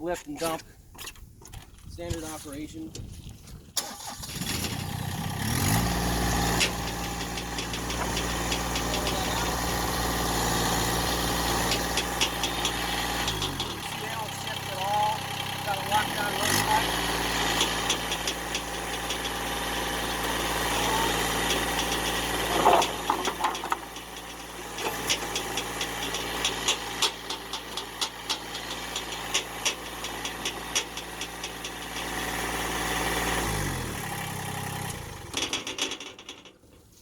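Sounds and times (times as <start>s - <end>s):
diesel tractor engine running: 3.8s - 37.0s
sharp clicks and rattles: 3.8s - 37.0s.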